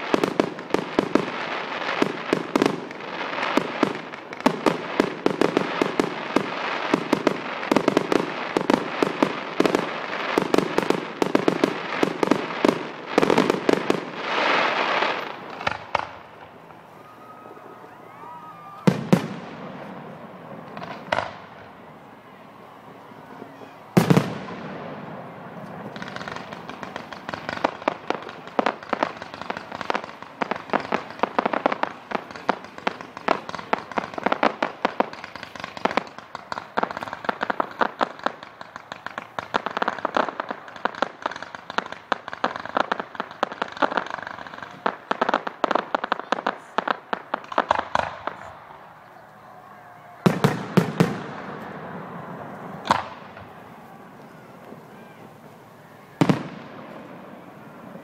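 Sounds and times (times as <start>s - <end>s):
fireworks crackling: 0.0s - 58.0s
loud firework bursts: 0.0s - 58.0s.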